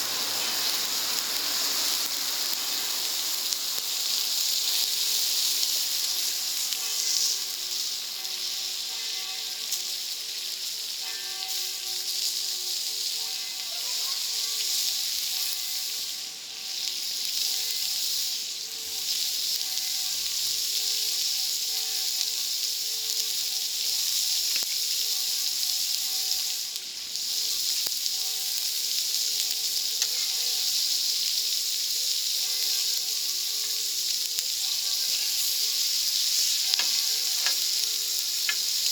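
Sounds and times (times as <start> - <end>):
faint steady tones: 0.0 - 38.9
food sizzling on a grill: 0.0 - 38.9.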